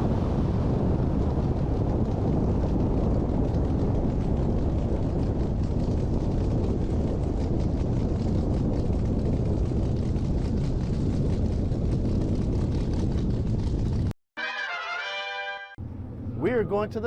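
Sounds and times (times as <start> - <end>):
truck engine rumbling: 0.6 - 17.0.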